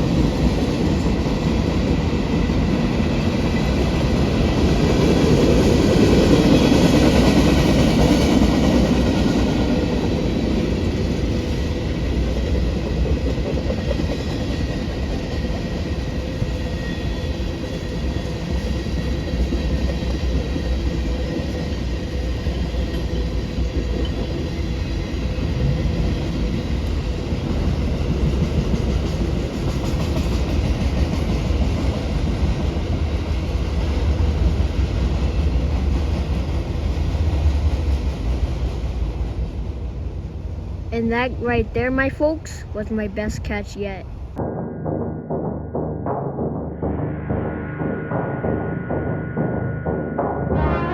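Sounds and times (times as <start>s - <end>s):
freight train rolling past: 0.0s - 40.9s, 44.1s - 50.9s.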